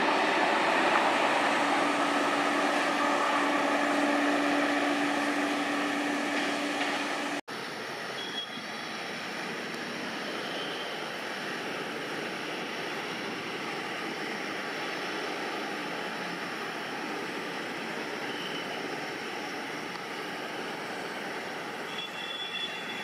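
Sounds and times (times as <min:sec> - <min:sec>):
train coaches humming: 0:00.0 - 0:23.0.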